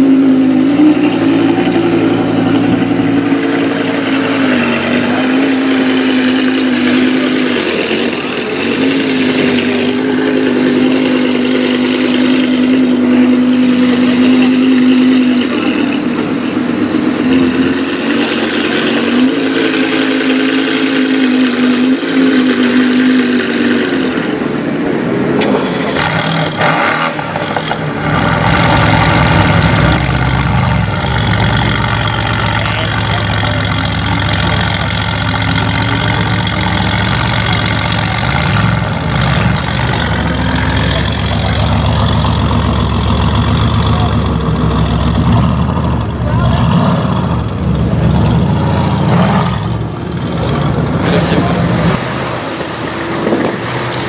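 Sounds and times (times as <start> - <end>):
car engine idling hum: 0.0 - 54.0
deep rumbling car engine idling: 0.0 - 54.0.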